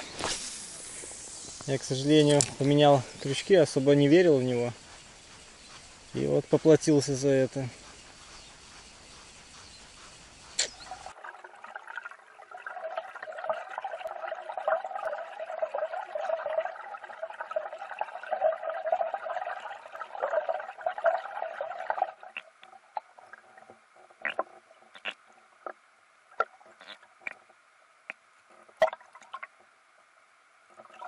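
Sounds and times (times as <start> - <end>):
underwater crackling rush: 0.0 - 27.6.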